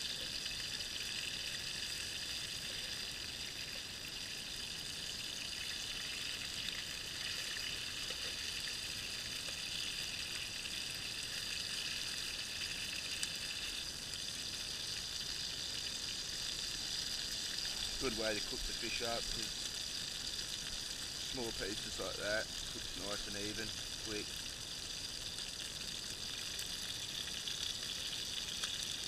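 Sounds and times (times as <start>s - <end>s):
fish sizzling in oil: 0.0s - 29.0s.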